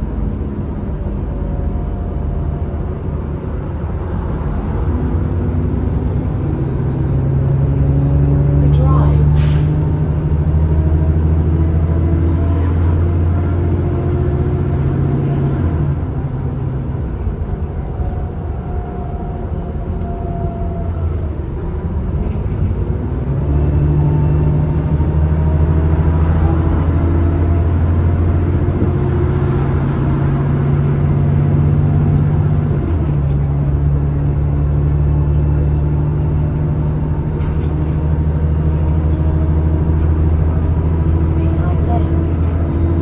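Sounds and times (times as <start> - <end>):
bus diesel engine: 0.0 - 43.0.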